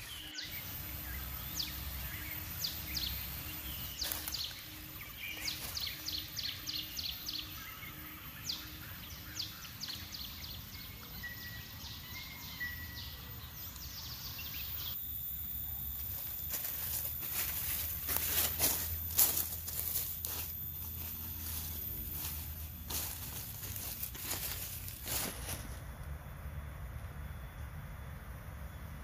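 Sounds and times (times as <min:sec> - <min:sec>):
high falling bird chirps: 0:00.0 - 0:25.8
low background noise: 0:00.0 - 0:29.0.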